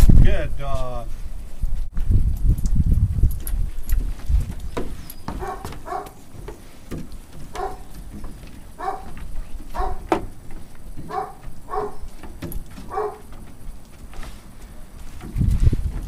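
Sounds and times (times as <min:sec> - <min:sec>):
footsteps on hollow wooden deck: 0:01.7 - 0:16.0.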